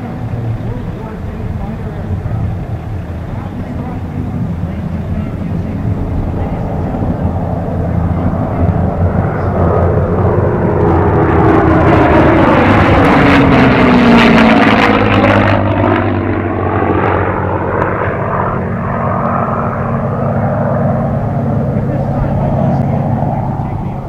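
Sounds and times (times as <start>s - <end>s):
propeller planes droning overhead: 0.0s - 24.0s.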